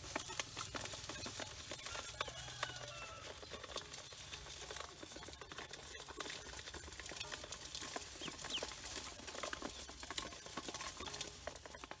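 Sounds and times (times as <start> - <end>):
ducklings peeping: 0.0 - 12.0
ducklings tapping in metal basin: 0.0 - 12.0.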